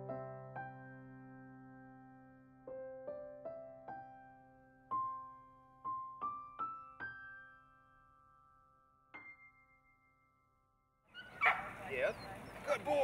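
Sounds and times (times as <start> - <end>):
soft piano music: 0.0 - 12.6.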